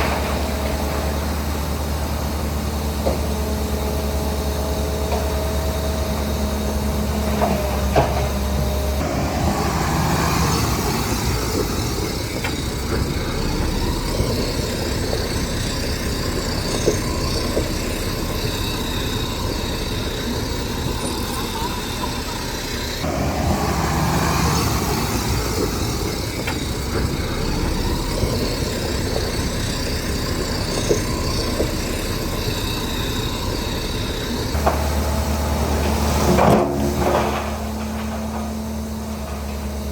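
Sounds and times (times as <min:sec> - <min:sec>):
diesel construction machinery running: 0:00.0 - 0:39.9
sharp knocks and clanks: 0:00.0 - 0:39.9.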